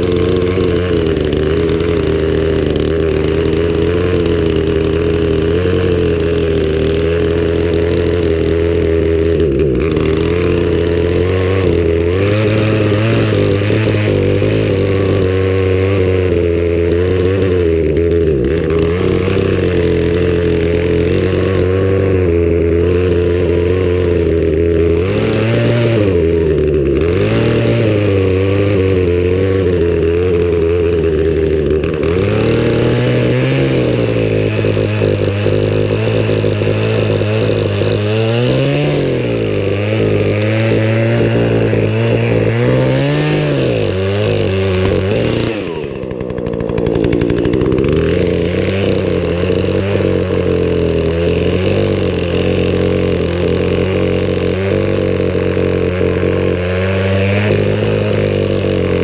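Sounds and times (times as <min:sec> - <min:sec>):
chainsaw idling with throttle blips: 0:00.0 - 0:59.0.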